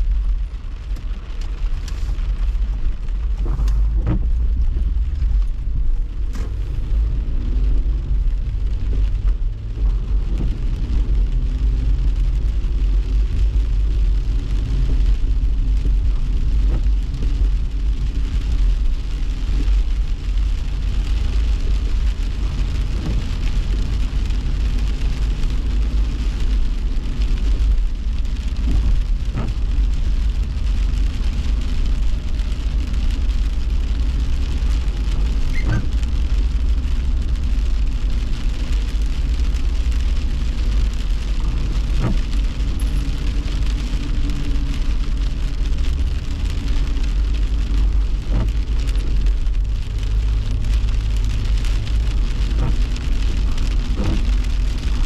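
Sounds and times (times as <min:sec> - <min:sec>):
heavy rain on car windshield: 0:00.0 - 0:55.0
road and engine rumble: 0:00.0 - 0:55.0.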